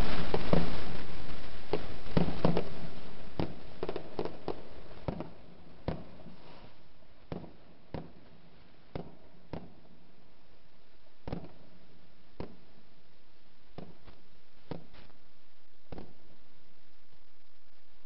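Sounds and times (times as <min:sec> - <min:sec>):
fireworks crackling and banging: 0:00.0 - 0:18.0.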